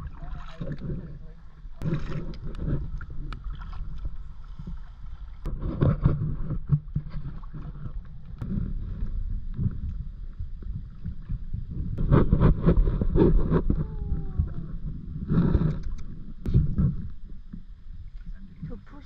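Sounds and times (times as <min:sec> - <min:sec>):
kayak paddles splashing in water: 0:00.0 - 0:15.8
wind rumble on microphone: 0:00.0 - 0:19.0.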